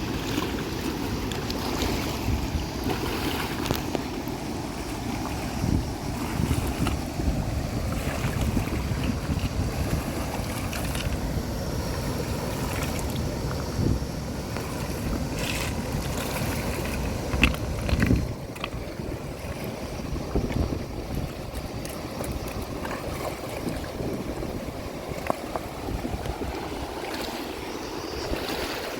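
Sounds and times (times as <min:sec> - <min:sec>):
flowing water: 0:00.0 - 0:28.9
wind rumbling on microphone: 0:00.0 - 0:28.9.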